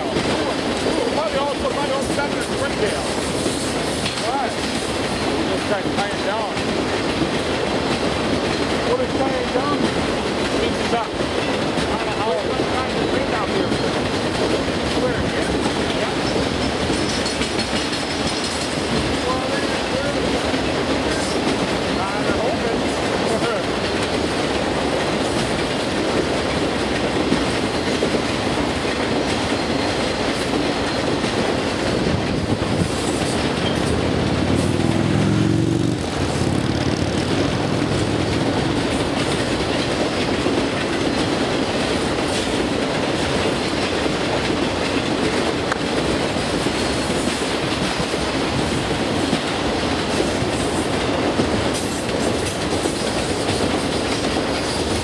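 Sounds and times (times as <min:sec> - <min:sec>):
train wheels clacking on rails: 0:00.0 - 0:55.0.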